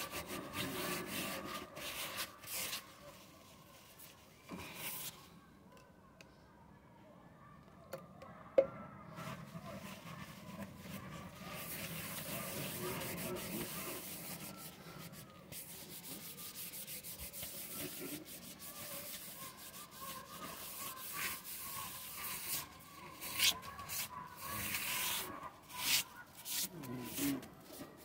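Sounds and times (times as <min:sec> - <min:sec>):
scrubbing on a tiled floor: 0:00.0 - 0:04.1, 0:09.3 - 0:28.0.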